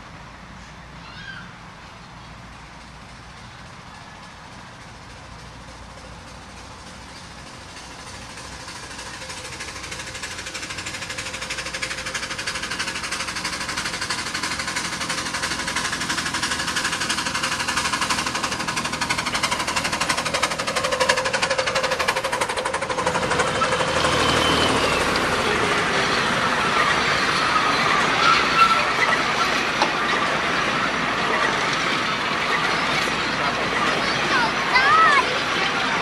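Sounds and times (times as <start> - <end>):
miniature train rattling clatter: 1.8 - 36.0.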